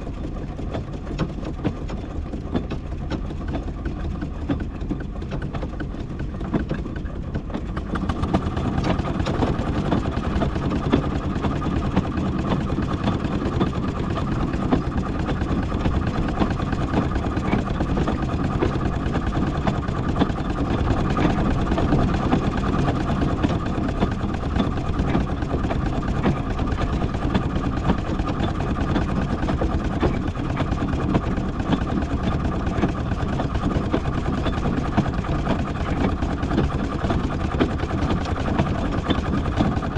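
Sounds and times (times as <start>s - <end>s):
steam engine running: 0.0s - 39.9s.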